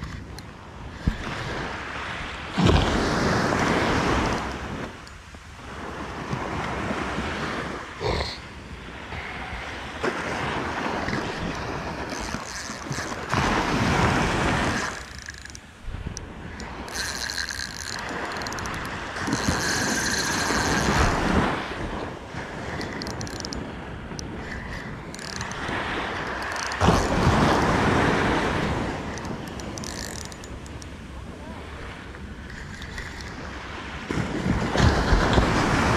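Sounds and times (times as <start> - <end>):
wind buffeting the microphone: 0.0 - 35.9
surf breaking on a beach: 0.6 - 35.9.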